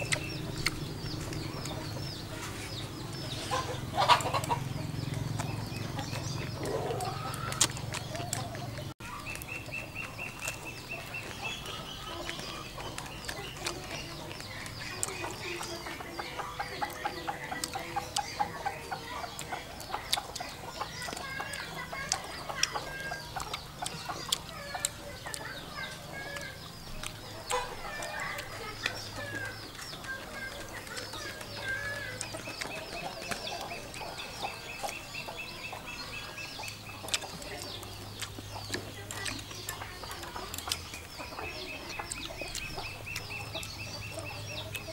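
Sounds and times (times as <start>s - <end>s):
birds calling: 0.0s - 44.9s
chickens clucking: 0.0s - 44.9s.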